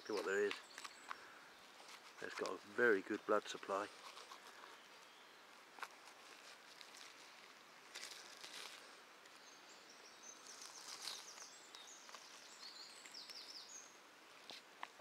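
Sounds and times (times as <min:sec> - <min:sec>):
faint rustles: 0:00.0 - 0:15.0
songbird chirping: 0:00.0 - 0:15.0.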